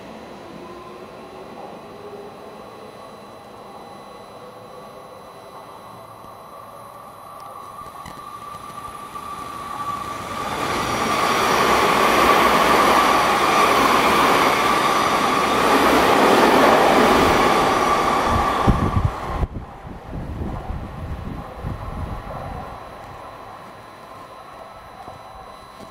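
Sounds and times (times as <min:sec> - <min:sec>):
electric train passing: 0:00.0 - 0:25.9.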